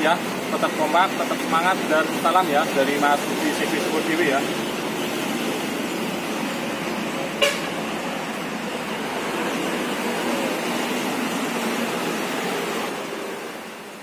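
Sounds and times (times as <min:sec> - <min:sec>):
steady vehicle noise: 0:00.0 - 0:14.0.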